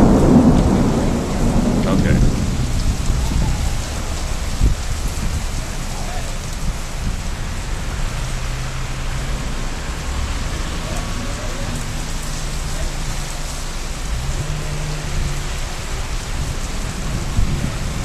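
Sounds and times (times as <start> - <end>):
heavy rain hissing: 0.0 - 18.0.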